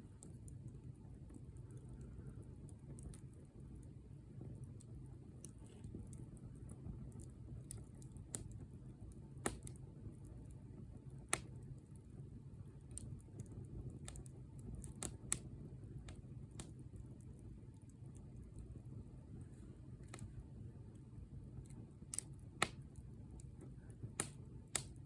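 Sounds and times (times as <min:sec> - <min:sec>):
campfire crackling and popping: 0:00.0 - 0:18.8, 0:20.0 - 0:25.0
low steady rumble: 0:00.0 - 0:25.0.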